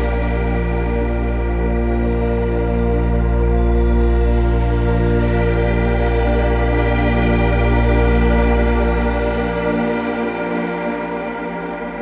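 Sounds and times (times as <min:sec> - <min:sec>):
deep low drone: 0:00.0 - 0:12.0.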